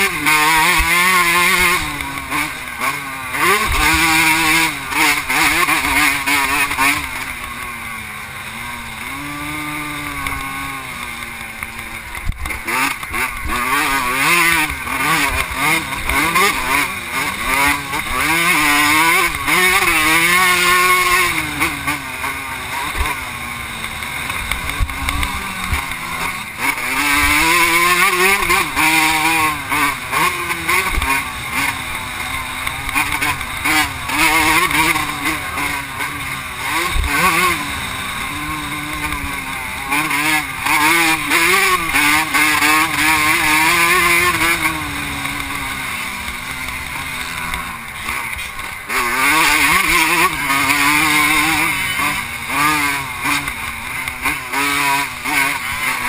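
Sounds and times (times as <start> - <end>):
motocross bike engine racing: 0.0 - 56.0.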